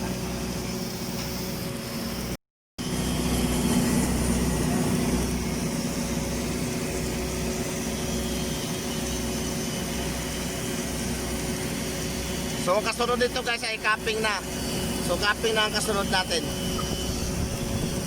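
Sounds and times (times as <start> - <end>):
welding machine hum: 0.0 - 18.0.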